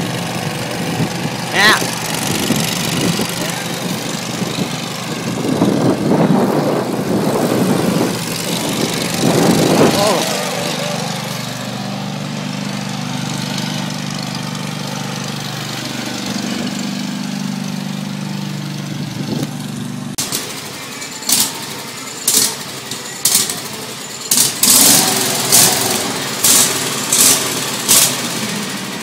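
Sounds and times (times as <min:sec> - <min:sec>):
ride-on mower engine running: 0:00.0 - 0:29.0.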